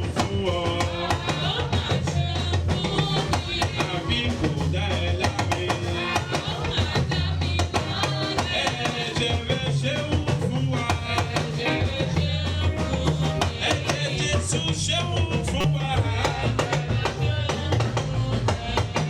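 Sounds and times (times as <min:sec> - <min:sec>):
live band music: 0:00.0 - 0:19.0.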